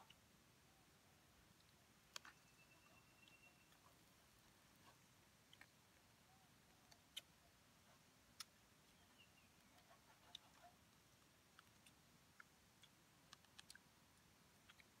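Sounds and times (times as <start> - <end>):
faint clicks and ticks: 1.4 - 15.0.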